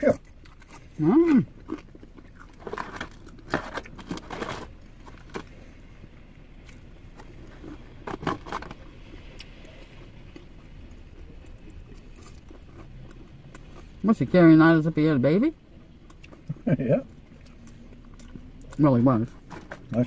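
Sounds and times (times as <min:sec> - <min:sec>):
person chewing: 0:00.0 - 0:14.0, 0:15.9 - 0:20.0.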